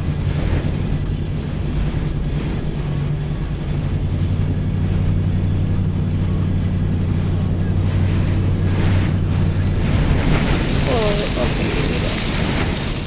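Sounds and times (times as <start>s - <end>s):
car engine and road noise: 0.0s - 13.0s
rushing wind: 0.0s - 13.0s.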